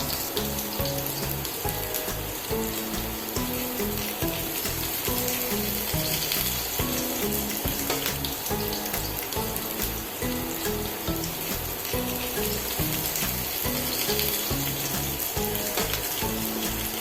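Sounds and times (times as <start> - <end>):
background music: 0.0 - 17.0
food sizzling in oil: 0.0 - 17.0.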